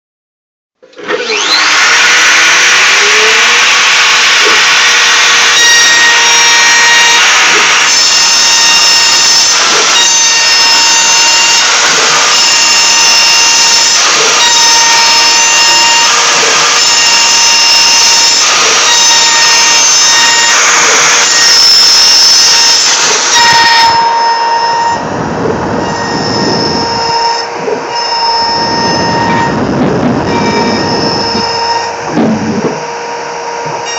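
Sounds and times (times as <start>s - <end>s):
power tool milling wood: 0.8s - 33.9s.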